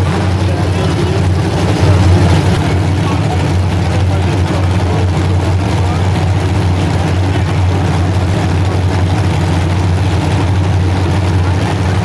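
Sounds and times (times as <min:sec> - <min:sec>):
unmuffled car engines rumbling: 0:00.0 - 0:12.0.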